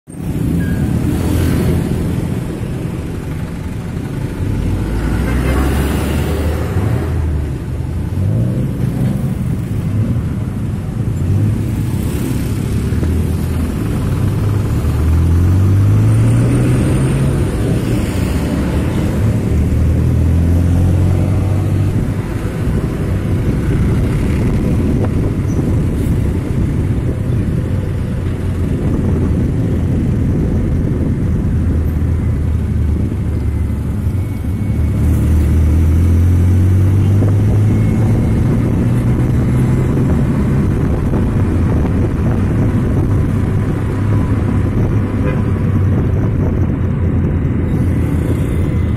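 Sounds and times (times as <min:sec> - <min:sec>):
road traffic: 0:00.0 - 0:48.9
truck engine rumbling: 0:00.1 - 0:48.9.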